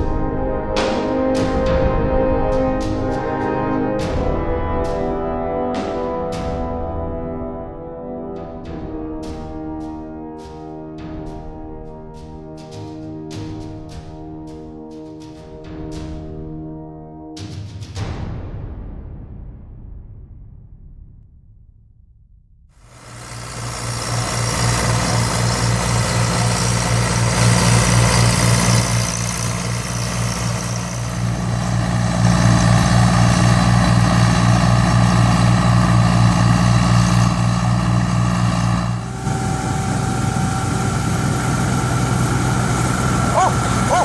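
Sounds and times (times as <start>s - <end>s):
combine harvester diesel drone: 0.0s - 17.2s, 22.8s - 44.0s.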